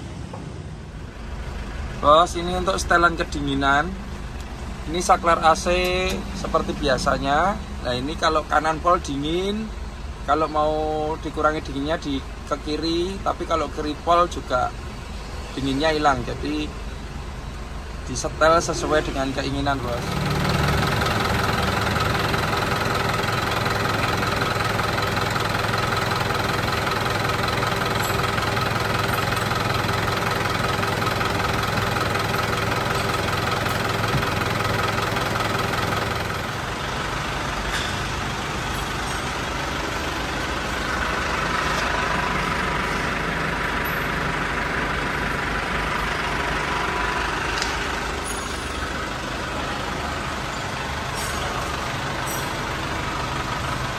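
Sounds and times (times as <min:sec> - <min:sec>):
diesel engine idling: 0:00.0 - 0:53.9
air conditioning compressor running: 0:00.9 - 0:14.1, 0:16.7 - 0:53.9.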